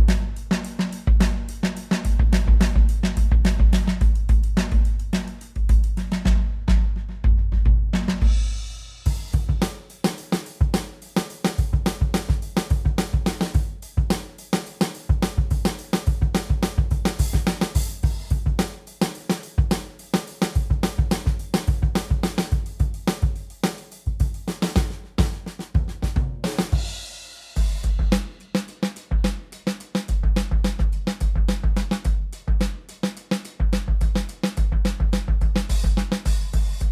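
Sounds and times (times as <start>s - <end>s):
drum kit groove: 0.0s - 36.9s.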